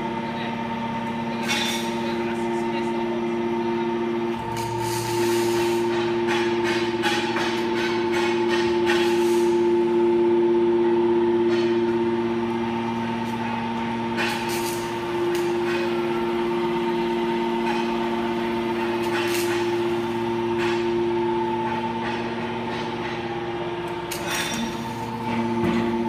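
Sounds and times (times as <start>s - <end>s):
hydraulic pump whine: 0.0s - 26.0s.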